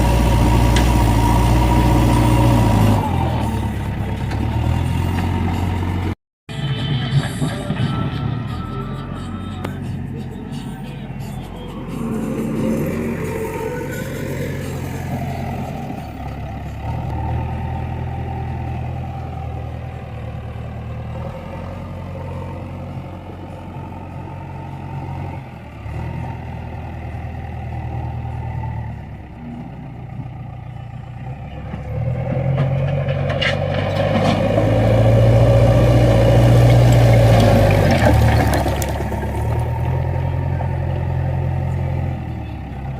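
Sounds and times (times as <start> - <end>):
diesel engine running and revving: 0.0 - 42.9.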